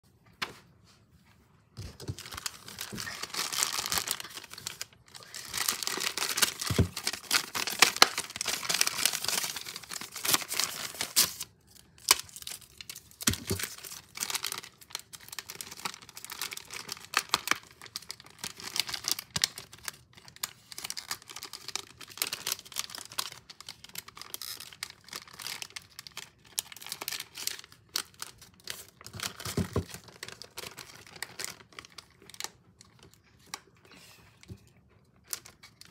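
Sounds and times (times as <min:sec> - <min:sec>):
packaged items rustling: 0:01.6 - 0:33.6
plastic bags crinkling: 0:01.8 - 0:33.6.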